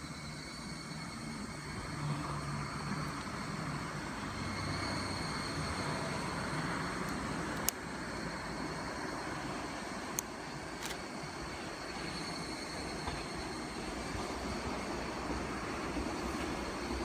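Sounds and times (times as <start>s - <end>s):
distant electric train rumble: 0.0s - 17.0s
insects chirping: 0.0s - 17.0s.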